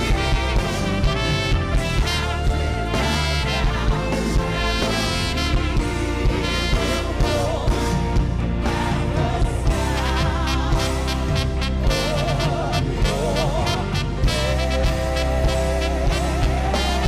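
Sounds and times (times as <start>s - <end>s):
steady drum beat: 0.0s - 17.0s
worship band playing: 0.0s - 17.0s
person singing: 2.0s - 17.0s.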